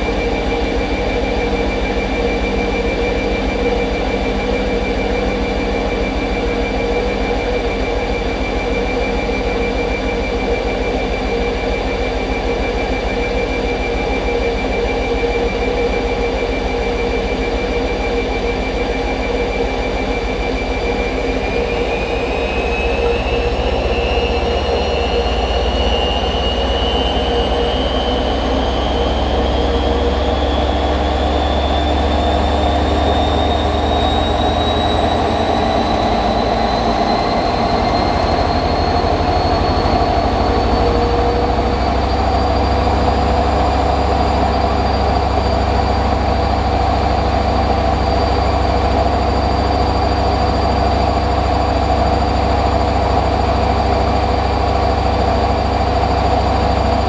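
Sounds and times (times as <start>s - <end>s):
washing machine motor whine: 0.0s - 57.0s.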